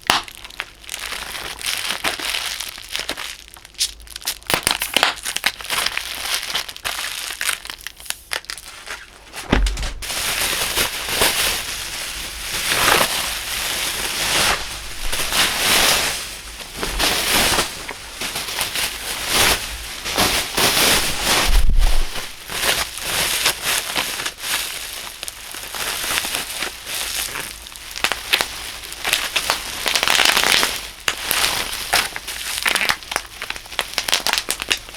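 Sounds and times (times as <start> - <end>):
bubble wrap popping: 0.0 - 34.9
plastic crinkling: 0.0 - 34.9.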